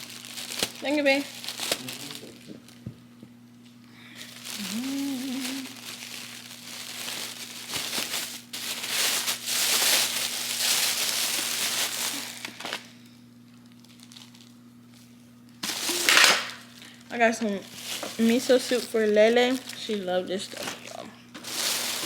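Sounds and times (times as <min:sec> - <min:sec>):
plastic bag crinkling: 0:00.0 - 0:02.8, 0:04.0 - 0:22.0.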